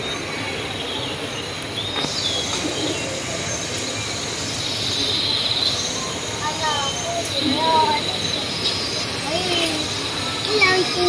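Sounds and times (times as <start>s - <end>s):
distant voices: 0.0s - 11.0s.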